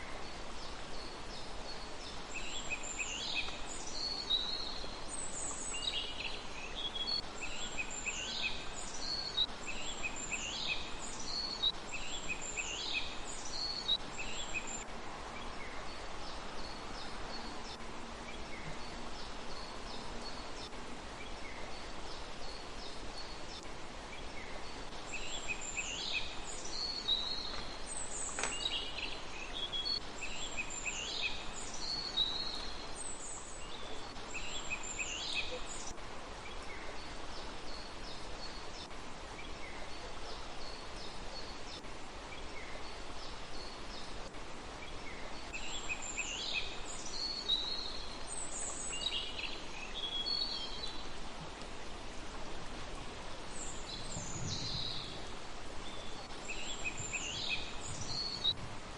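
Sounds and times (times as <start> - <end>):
songbird singing: 0.0 - 58.9
steady background hiss: 0.0 - 58.9.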